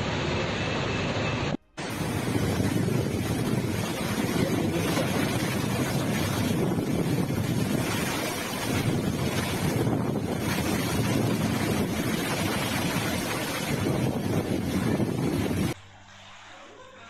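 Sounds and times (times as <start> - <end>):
strong wind buffeting microphone: 1.8 - 15.8.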